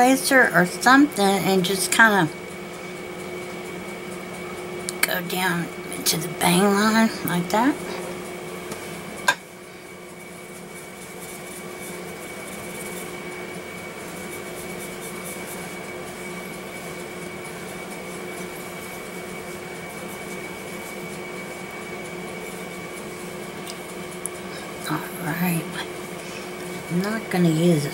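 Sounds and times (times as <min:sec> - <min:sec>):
background hum: 0:00.0 - 0:27.9
high constant whine: 0:00.0 - 0:27.9.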